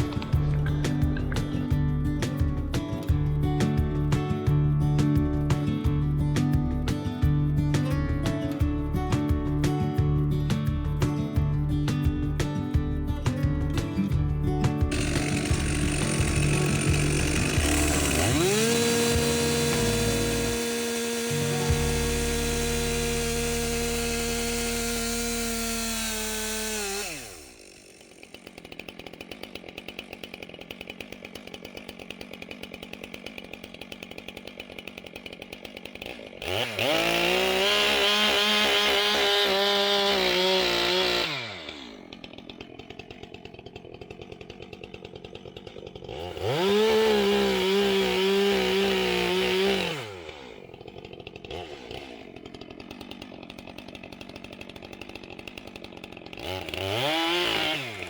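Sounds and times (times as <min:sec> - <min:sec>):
chainsaw revving and idling: 0:00.0 - 0:58.0.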